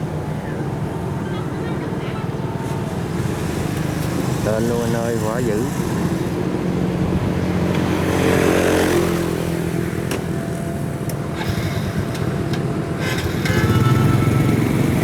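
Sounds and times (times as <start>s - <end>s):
farm machine diesel engine: 0.0s - 15.0s.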